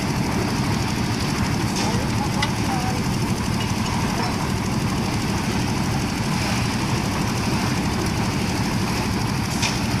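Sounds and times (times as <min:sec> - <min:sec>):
heavy engine rumbling: 0:00.0 - 0:10.0.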